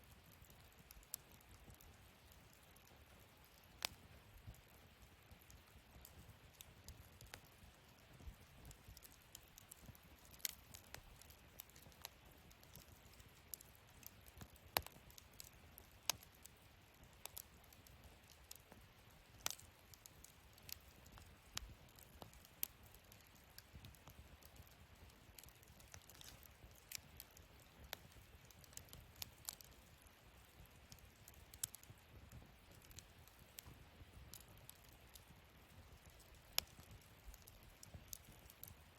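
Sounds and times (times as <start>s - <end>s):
wood fire crackling: 0.0s - 38.9s
fire pops: 0.4s - 38.9s.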